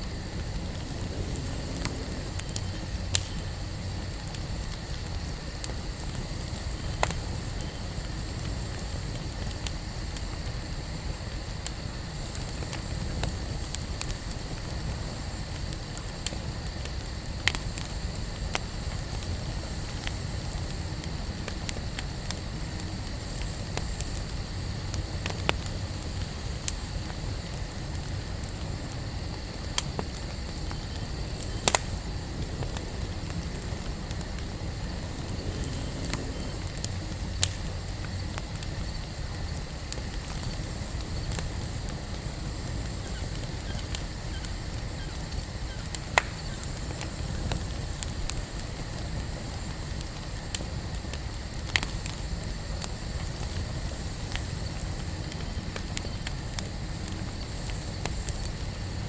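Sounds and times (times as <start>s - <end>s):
fire crackles and pops: 0.0s - 59.0s
wood fire burning: 0.0s - 59.0s.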